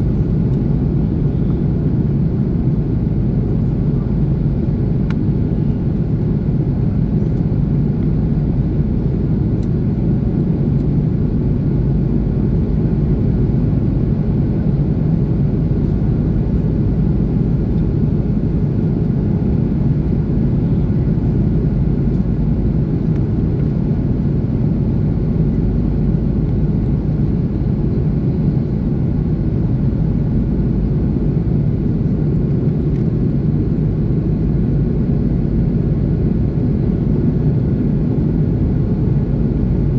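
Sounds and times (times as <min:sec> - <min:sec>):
airplane cabin roar: 0:00.0 - 0:39.9
faint steady hum tones: 0:00.0 - 0:39.9.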